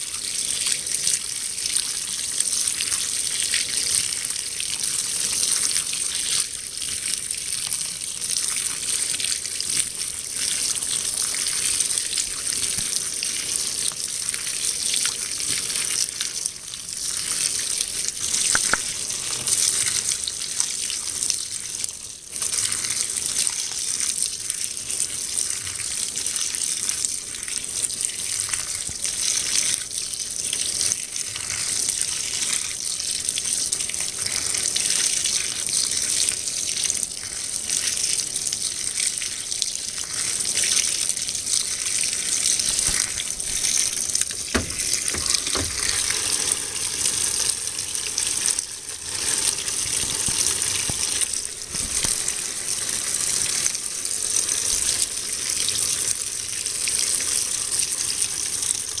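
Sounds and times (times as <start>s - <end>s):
water pouring into washer tub: 0.0s - 59.0s.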